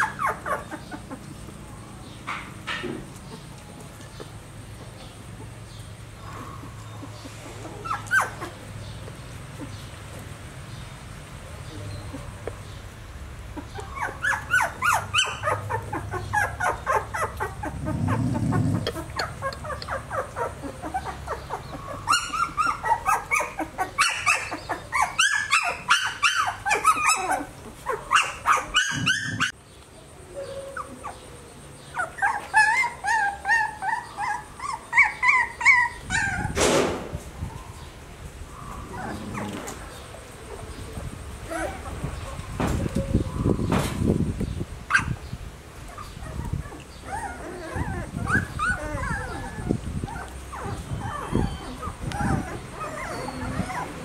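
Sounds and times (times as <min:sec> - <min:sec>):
puppies yipping and whimpering: 0:00.0 - 0:01.6, 0:02.2 - 0:10.2, 0:13.5 - 0:29.6, 0:30.3 - 0:36.6, 0:37.4 - 0:44.1, 0:44.9 - 0:54.0.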